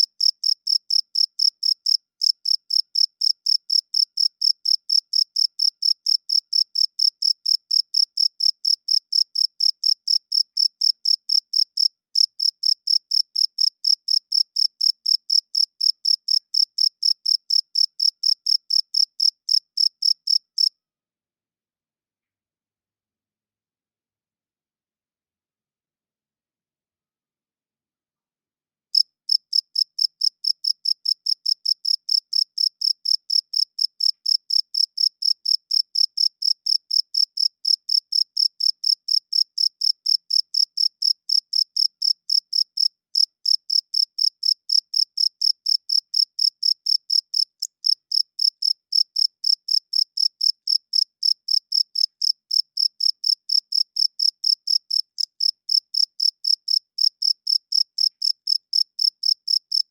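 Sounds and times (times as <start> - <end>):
crickets chirping: 0.2 - 20.7, 29.0 - 59.8.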